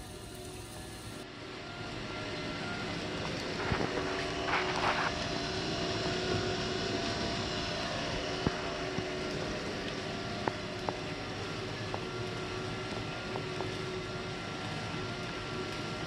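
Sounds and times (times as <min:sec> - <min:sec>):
faint steady tones: 0:00.0 - 0:16.0
mechanical hum: 0:00.0 - 0:16.0.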